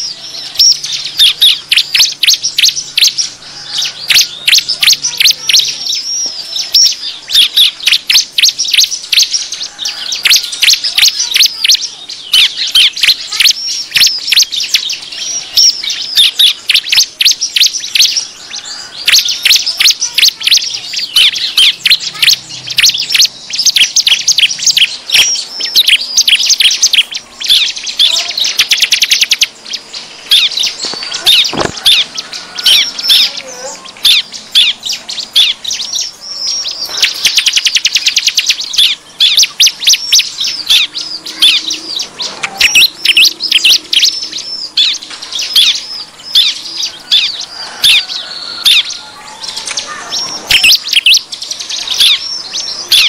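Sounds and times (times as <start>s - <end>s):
birds chattering high chirps: 0.0s - 53.0s.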